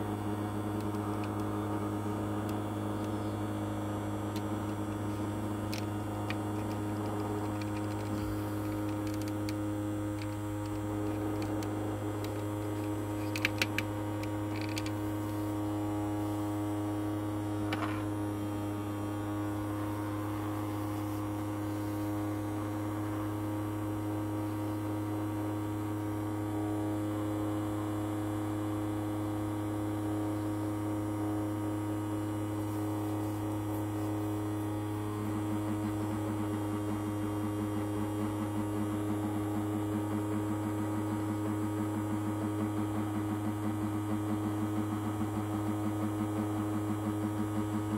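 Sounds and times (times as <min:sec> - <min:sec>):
ultrasonic cleaner humming: 0:00.0 - 0:47.9.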